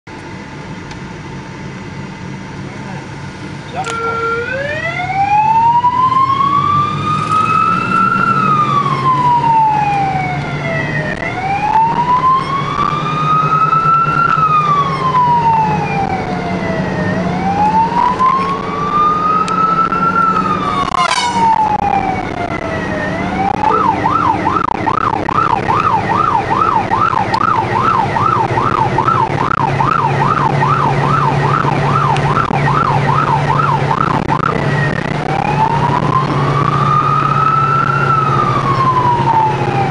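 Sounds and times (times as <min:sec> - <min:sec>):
car engine and road noise: 0:00.0 - 0:39.9
police siren wailing and yelping: 0:03.7 - 0:39.9.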